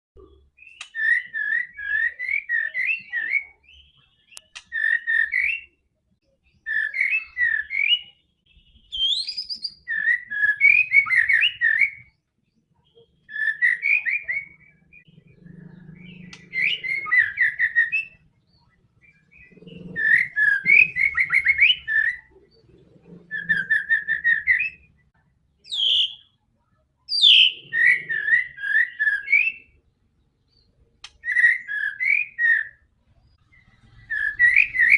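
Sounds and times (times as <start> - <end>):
bird singing whistled phrases: 0.2 - 5.8, 6.4 - 12.2, 12.8 - 15.1, 16.1 - 22.3, 23.3 - 24.9, 25.7 - 26.3, 27.1 - 29.8, 30.5 - 32.8, 33.5 - 34.9.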